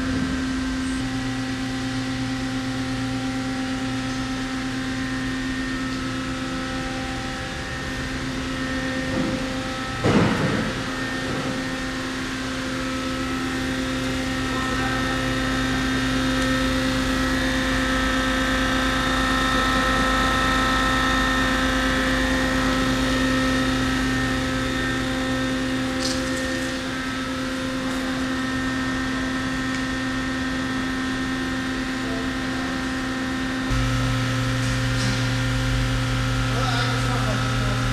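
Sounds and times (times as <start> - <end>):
lathe machine hum: 0.0 - 37.9.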